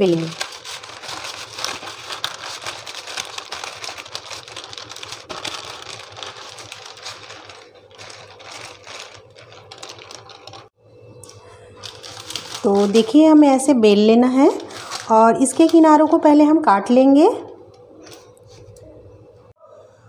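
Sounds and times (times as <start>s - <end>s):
rolling pin crackling paper: 0.0s - 10.8s, 11.8s - 17.2s.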